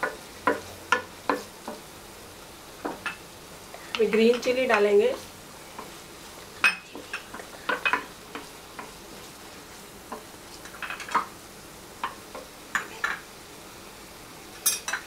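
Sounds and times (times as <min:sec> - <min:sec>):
vegetables sizzling: 0:00.0 - 0:15.0.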